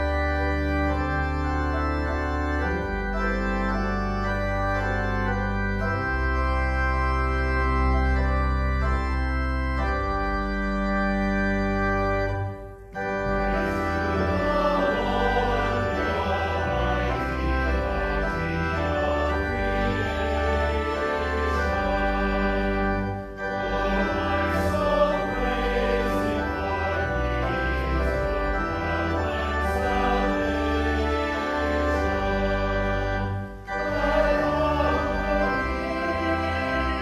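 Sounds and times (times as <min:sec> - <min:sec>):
church organ playing hymn: 0:00.0 - 0:37.0.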